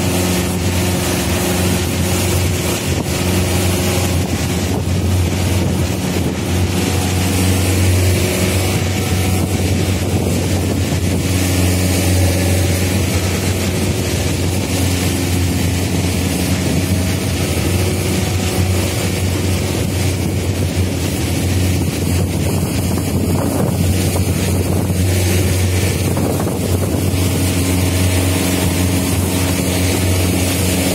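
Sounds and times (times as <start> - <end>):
motorboat engine droning: 0.0 - 30.9
wind on microphone: 0.0 - 30.9.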